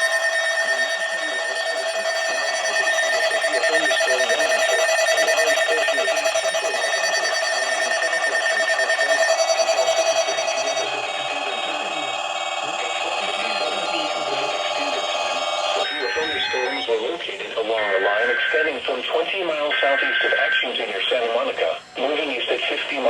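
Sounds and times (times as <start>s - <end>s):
electronic emergency alert tones: 0.0s - 22.5s.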